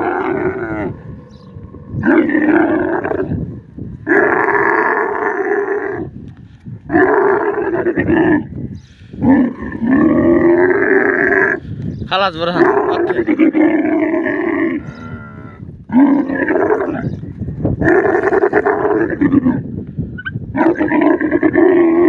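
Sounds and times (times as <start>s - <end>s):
camel bellowing: 0.0s - 11.7s, 12.4s - 22.0s.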